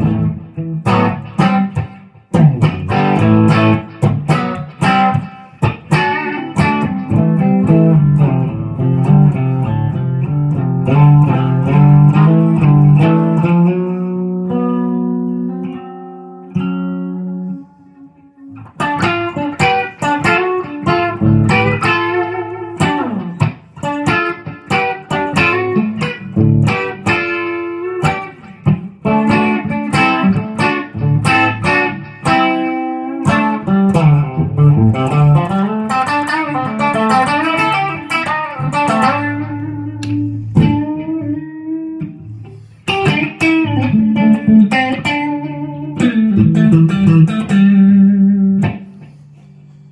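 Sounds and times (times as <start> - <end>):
electric guitar riffs and chords: 0.0 - 49.9.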